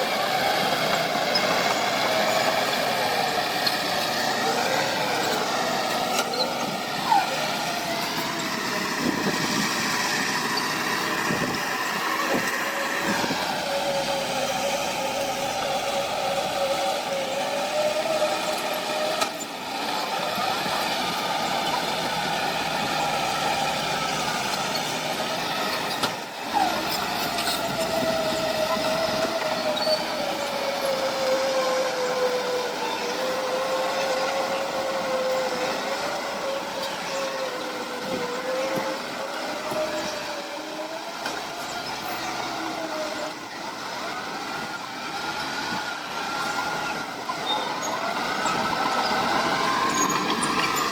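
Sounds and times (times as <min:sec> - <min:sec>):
heavy machinery whining: 0:00.0 - 0:50.9.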